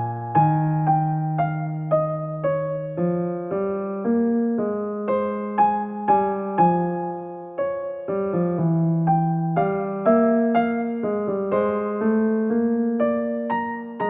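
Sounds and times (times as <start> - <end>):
gentle electric piano melody: 0.0 - 14.0.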